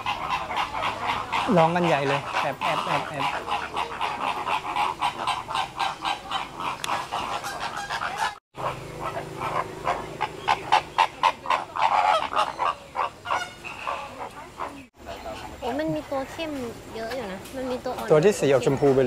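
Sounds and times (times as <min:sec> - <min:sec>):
flamingos honking: 0:00.0 - 0:17.1.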